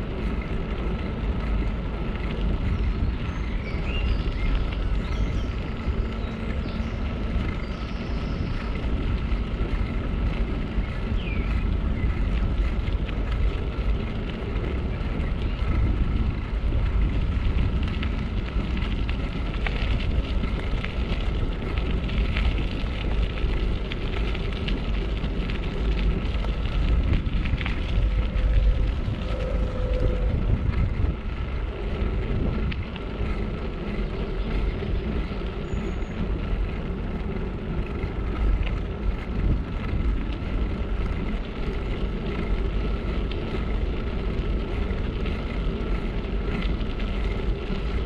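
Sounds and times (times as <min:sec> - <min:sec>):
bicycle tyres crunching on gravel: 0:00.0 - 0:48.0
wind buffeting microphone: 0:00.0 - 0:48.0.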